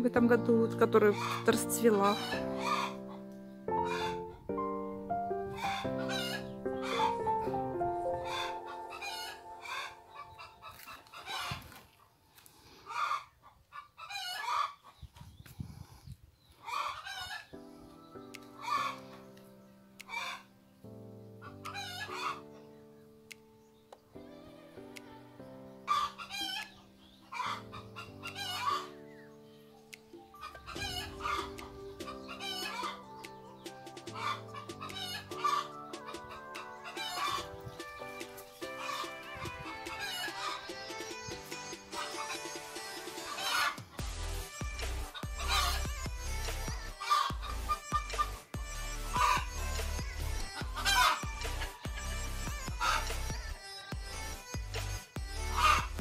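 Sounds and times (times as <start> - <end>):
background music sustained chords: 0.0 - 11.4, 17.1 - 56.0
chickens calling: 1.0 - 4.7, 5.3 - 20.5, 21.4 - 56.0.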